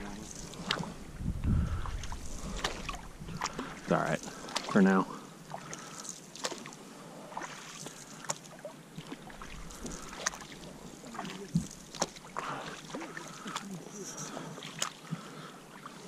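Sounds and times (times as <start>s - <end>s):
paddles splashing in water: 0.0s - 16.0s
water dripping off paddles: 0.0s - 16.0s.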